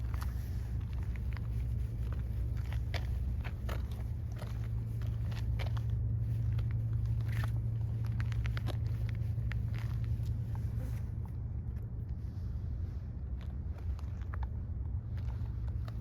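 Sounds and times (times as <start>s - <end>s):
small crunching clicks: 0.0s - 10.8s, 13.4s - 16.0s
steady low rumble: 0.0s - 16.0s.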